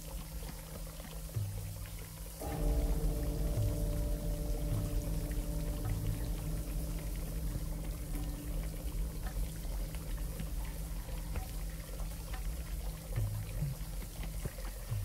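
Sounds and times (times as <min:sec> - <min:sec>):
water drips: 0:00.0 - 0:15.0
low drone: 0:02.4 - 0:15.0.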